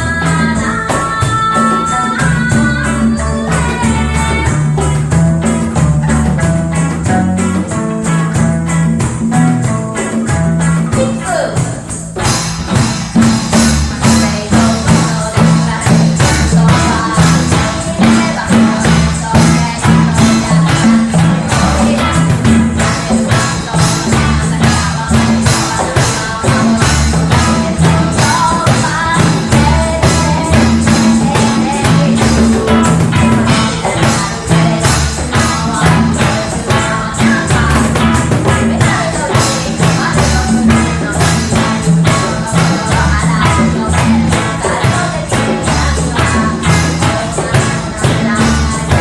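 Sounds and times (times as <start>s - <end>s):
live band playing: 0.0s - 49.0s
person singing: 0.0s - 49.0s.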